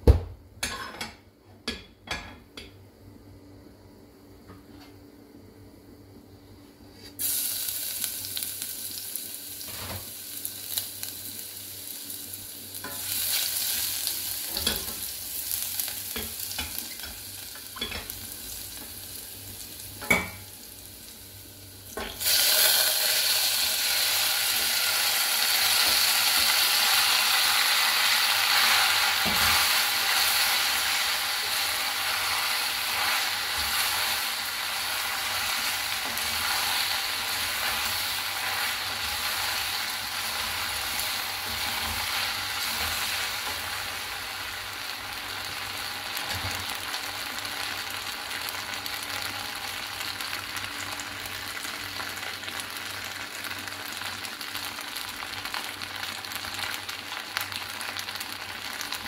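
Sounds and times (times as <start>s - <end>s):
garlic sizzling in oil: 6.9s - 59.0s
pasta frying loudly: 7.1s - 59.0s.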